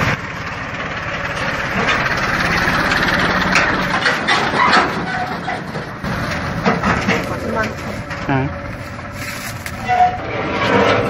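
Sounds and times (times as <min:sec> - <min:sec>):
farm machinery engine running: 0:00.0 - 0:11.0.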